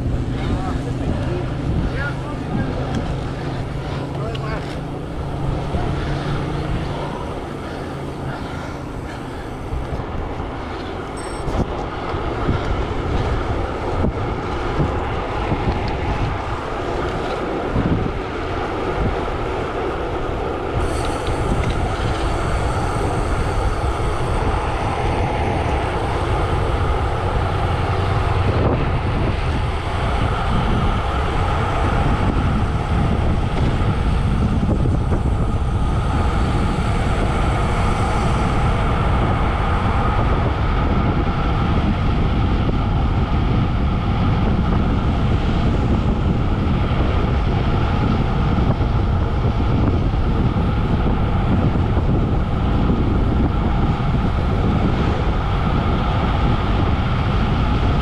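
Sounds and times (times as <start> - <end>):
tyres rolling on tarmac: 0.0 - 58.0
wind rushing over microphone: 0.0 - 58.0.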